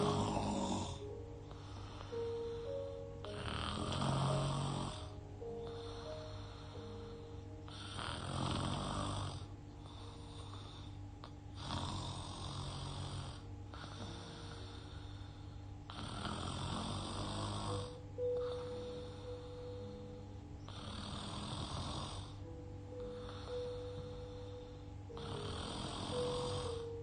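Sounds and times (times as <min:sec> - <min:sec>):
faint background music: 0:00.0 - 0:27.0
woman snoring: 0:00.0 - 0:27.0.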